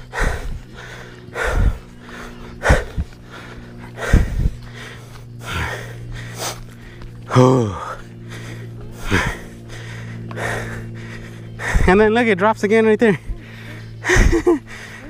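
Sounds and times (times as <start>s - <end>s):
noisy breaths near microphone: 0.0s - 15.0s
vehicle engine idling: 0.0s - 15.0s.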